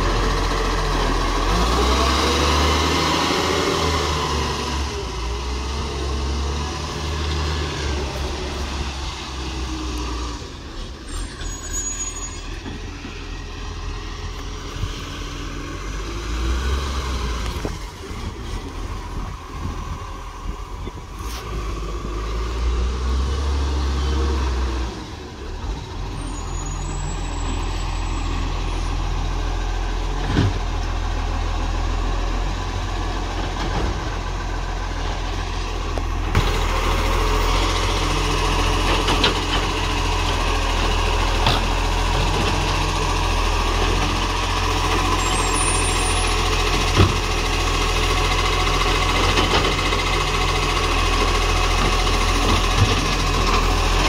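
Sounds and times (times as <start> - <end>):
garbage truck diesel engine running: 0.0 - 54.0.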